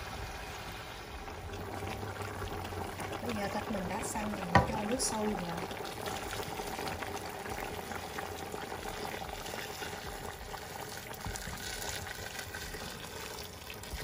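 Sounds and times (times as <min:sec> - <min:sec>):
boiling water pouring into pot: 0:00.0 - 0:14.0.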